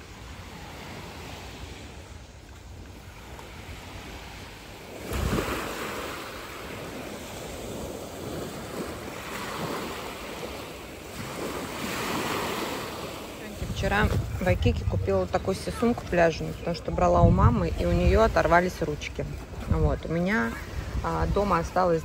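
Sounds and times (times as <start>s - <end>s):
waves washing on sandy shore: 0.0s - 22.0s.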